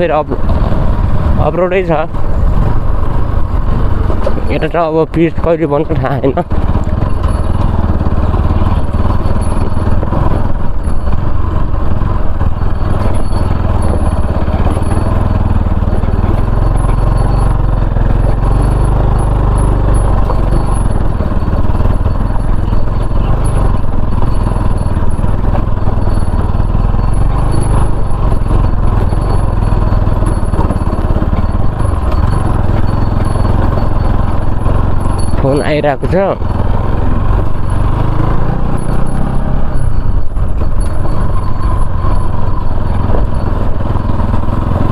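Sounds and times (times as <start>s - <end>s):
motorcycle rumbling on rough road: 0.0s - 44.9s.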